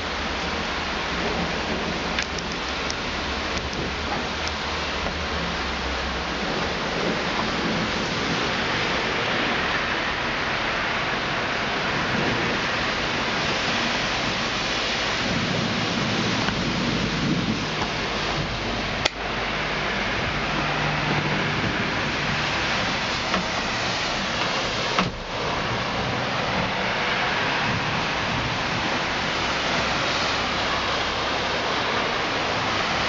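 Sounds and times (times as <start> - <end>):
heavy rain pouring: 0.0 - 33.0
vehicle passing on wet road: 0.0 - 33.0.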